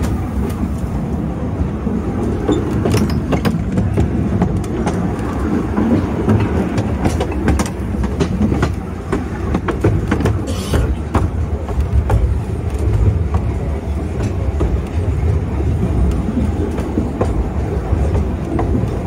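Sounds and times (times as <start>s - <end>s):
train carriage rumble: 0.0s - 19.0s
wheels clacking over rail joints: 0.0s - 19.0s.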